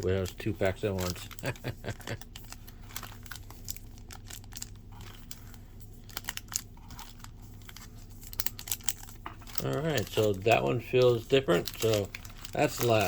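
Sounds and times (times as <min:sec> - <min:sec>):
foil packs crinkling: 0:00.0 - 0:13.0.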